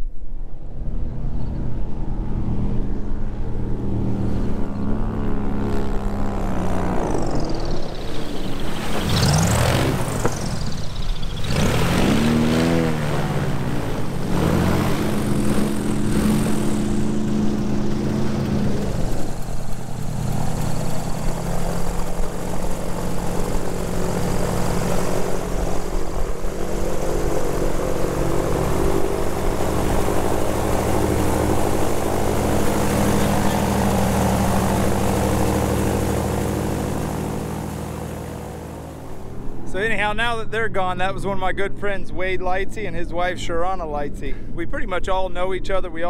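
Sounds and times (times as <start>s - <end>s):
airboat engine and propeller: 0.3s - 45.9s.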